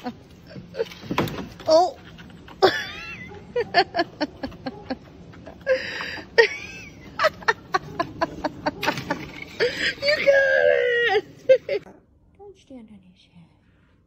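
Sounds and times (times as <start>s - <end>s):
person laughing: 0.0s - 11.9s.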